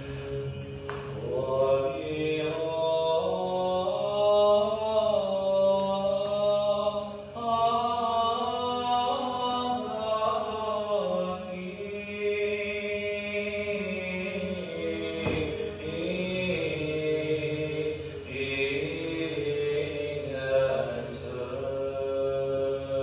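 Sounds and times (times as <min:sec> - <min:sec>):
steady low drone: 0:00.0 - 0:23.0.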